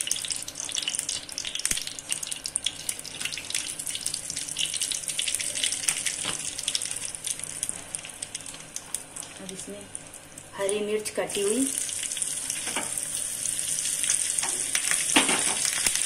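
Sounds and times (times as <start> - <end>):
ghee sizzling and crackling: 0.0 - 16.0.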